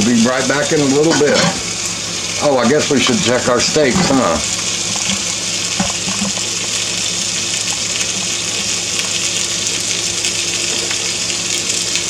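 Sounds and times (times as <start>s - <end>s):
steaks sizzling in a skillet: 0.0s - 12.0s.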